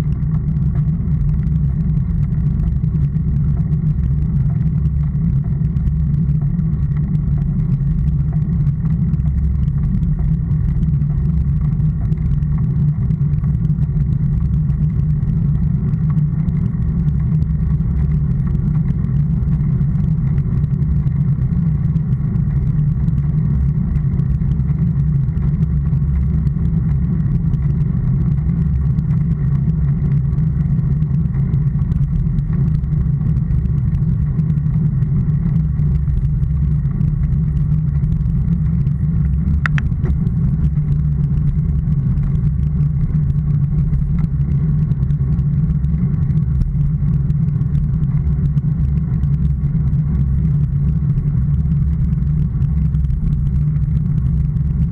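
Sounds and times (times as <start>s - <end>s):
bicycle road vibration on asphalt: 0.0s - 54.9s
wind rumble: 0.0s - 54.9s.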